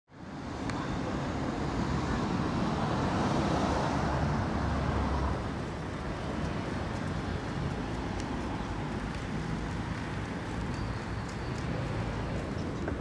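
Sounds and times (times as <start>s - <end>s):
street traffic rumble: 0.1s - 13.0s
vehicle passing: 1.0s - 13.0s.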